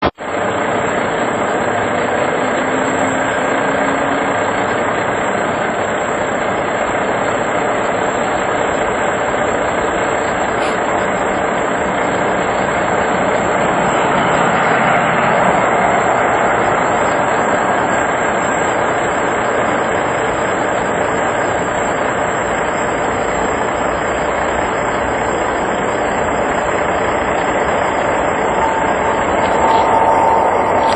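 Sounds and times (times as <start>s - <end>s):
high whine: 0.0s - 30.9s
jet engines running: 0.0s - 30.9s.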